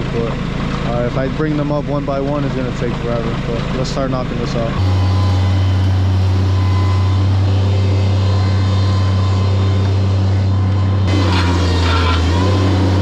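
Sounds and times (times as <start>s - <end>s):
loader engine droning: 0.0s - 13.0s.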